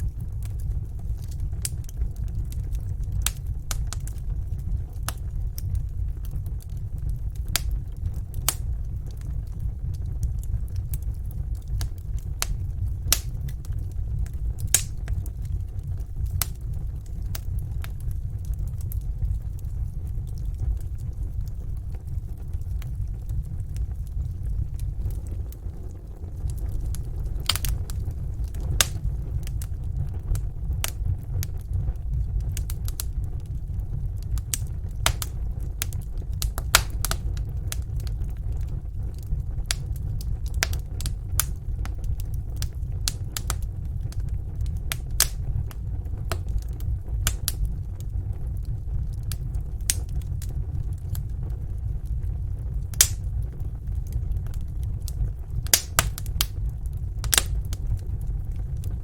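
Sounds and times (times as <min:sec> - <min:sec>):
fire crackling and popping: 0:00.0 - 0:59.0
low rumble: 0:00.0 - 0:59.0.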